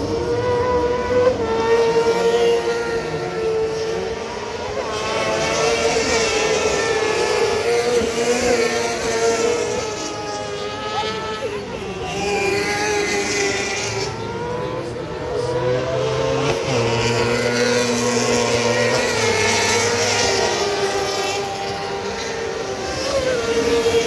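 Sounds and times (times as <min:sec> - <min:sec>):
racing buggy engines running hard: 0:00.0 - 0:24.0.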